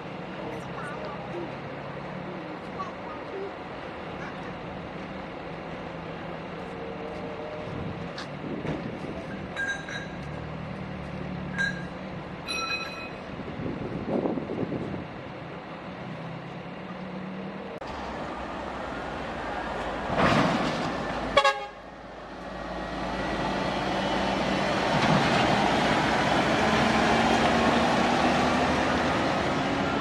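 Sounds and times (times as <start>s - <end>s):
diesel trucks passing: 0.0s - 30.0s.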